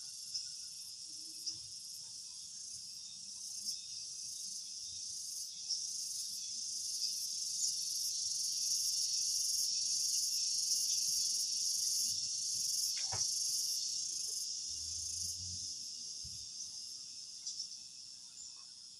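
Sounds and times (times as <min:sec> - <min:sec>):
crickets chirring: 0:00.0 - 0:18.9.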